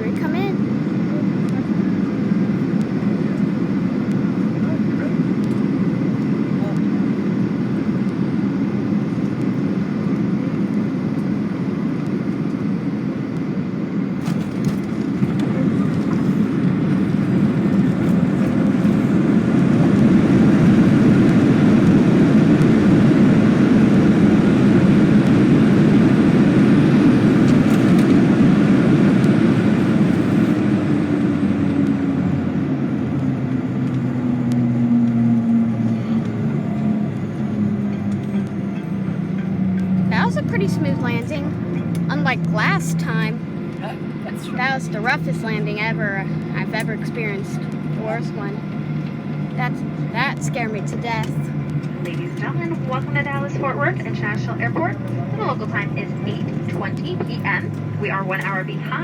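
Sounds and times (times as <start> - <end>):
jet engines rumbling in cabin: 0.0 - 59.0
reverse thrust roar: 0.0 - 59.0.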